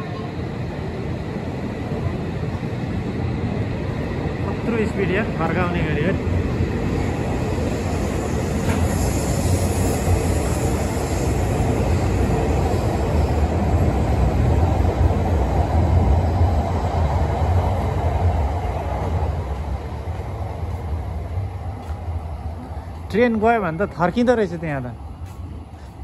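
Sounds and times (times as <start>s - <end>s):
bullet train rushing past: 0.0s - 26.0s.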